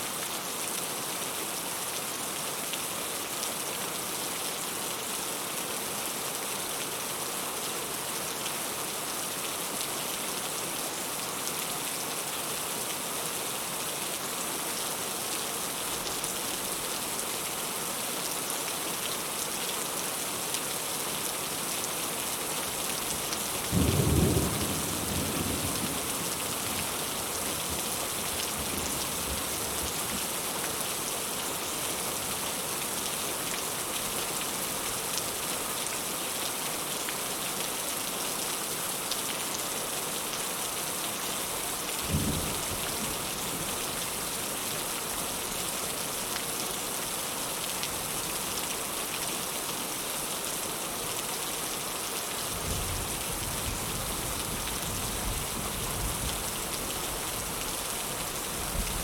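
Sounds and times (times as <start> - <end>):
heavy rain falling: 3.1 - 59.0.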